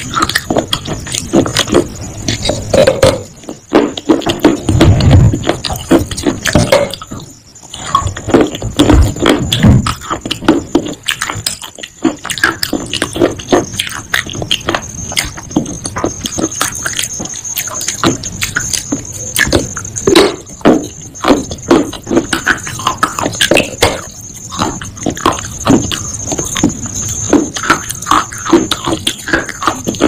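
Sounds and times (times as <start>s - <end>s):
crunching clay pieces in mouth: 0.0s - 30.0s
wet mouth sounds: 0.0s - 30.0s.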